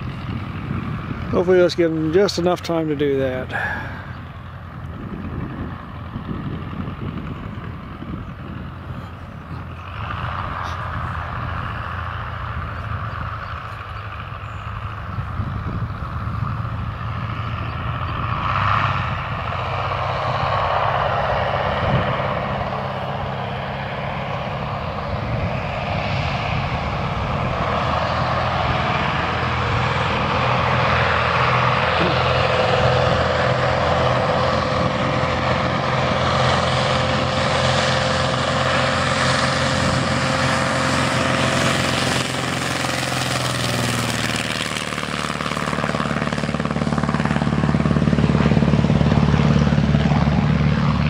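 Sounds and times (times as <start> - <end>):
propeller plane engine running: 0.0 - 51.0.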